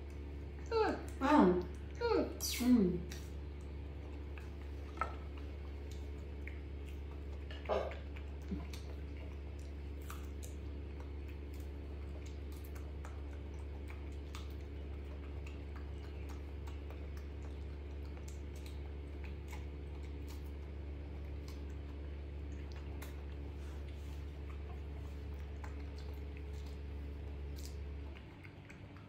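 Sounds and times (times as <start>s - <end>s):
monkey chewing soft fruit: 0.0s - 29.0s
steady low hum: 0.0s - 29.0s.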